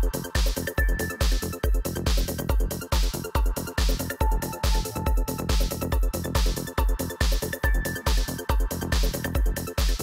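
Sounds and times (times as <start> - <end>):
bass: 0.0 - 10.0
four-on-the-floor kick drum: 0.0 - 10.0
psytrance music: 0.0 - 10.0.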